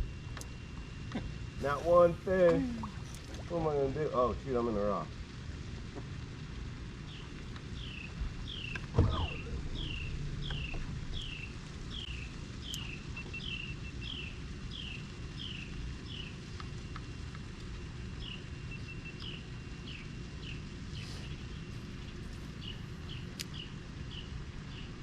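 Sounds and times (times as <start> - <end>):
low rumble of outdoor noise: 0.0 - 25.0.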